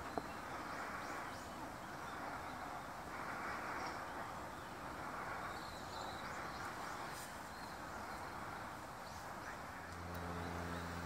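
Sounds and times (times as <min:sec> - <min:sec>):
distant city traffic hum: 0:00.0 - 0:11.0
faint bird chirps: 0:00.0 - 0:11.0.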